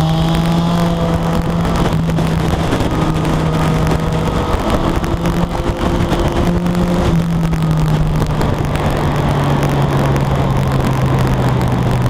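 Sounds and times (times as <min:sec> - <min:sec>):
heavy wind rush: 0:00.0 - 0:12.0
motorcycle engine running: 0:00.0 - 0:12.0.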